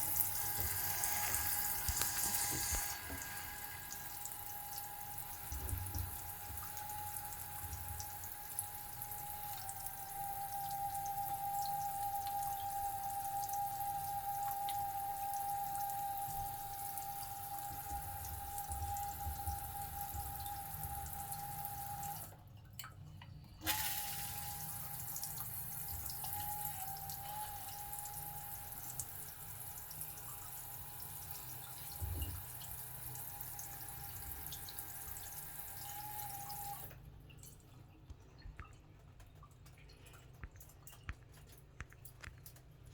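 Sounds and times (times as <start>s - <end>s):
shower water running and dripping: 0.0s - 22.4s, 23.6s - 42.9s.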